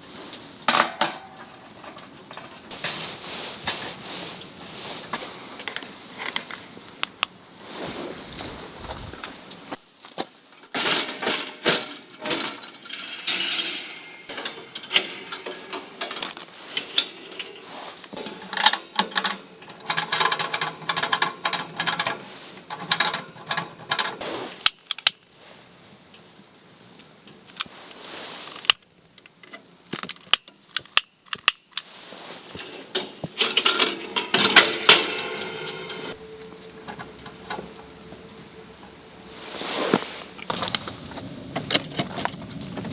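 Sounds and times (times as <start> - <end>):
rustling: 0.0 - 28.8, 31.6 - 42.9.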